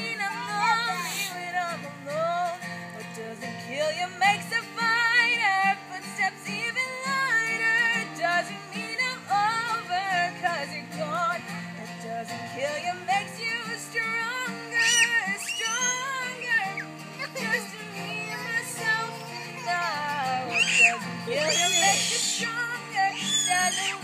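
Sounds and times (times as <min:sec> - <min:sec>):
acoustic guitar strumming: 0:00.0 - 0:24.0
woman singing: 0:00.0 - 0:24.0.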